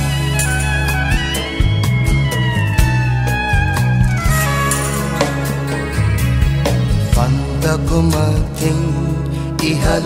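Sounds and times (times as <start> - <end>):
instrumental music with beat and bass: 0.0 - 10.0.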